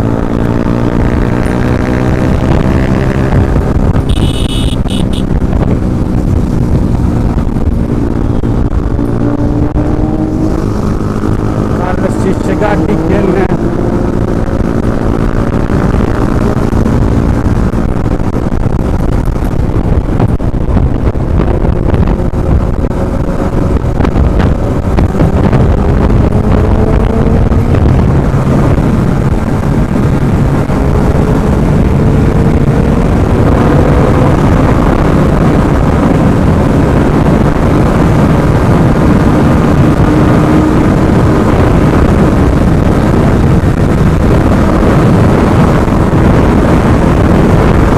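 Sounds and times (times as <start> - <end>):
motorcycle engine pulling at speed: 0.0 - 47.9
wind rumble on microphone: 0.0 - 47.9.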